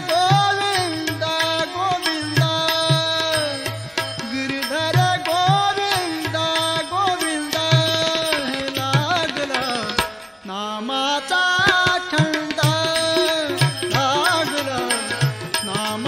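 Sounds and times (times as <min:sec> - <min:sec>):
tabla strokes: 0:00.0 - 0:10.5, 0:11.6 - 0:16.0.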